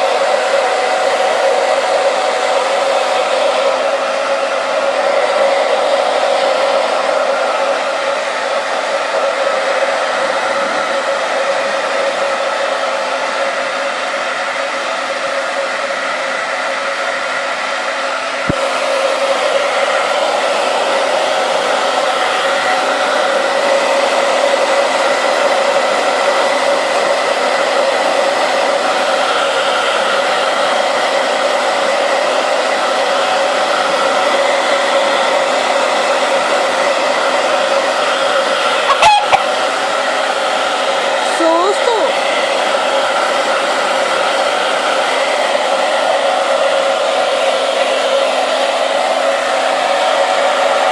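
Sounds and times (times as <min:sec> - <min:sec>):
hair dryer running: 0:00.0 - 0:50.9.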